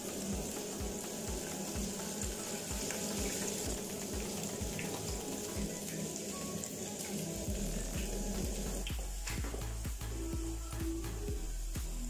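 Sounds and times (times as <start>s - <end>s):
vegetables sizzling in hot oil: 0.0s - 10.8s
background music with beat: 0.0s - 12.0s.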